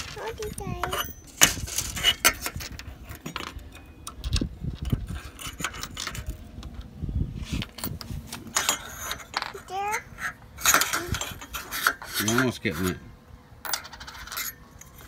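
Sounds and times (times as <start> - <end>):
small metal parts clinking: 0.0 - 6.9, 7.5 - 13.0, 13.6 - 15.0.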